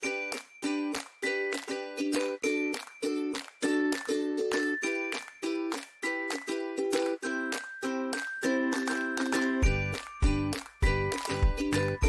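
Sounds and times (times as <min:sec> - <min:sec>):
rhythmic plucked chords: 0:00.6 - 0:12.0.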